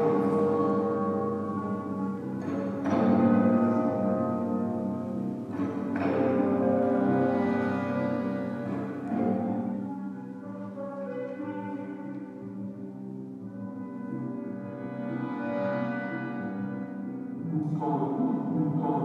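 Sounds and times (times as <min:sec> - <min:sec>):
orchestra playing sustained chords: 0:00.0 - 0:19.0.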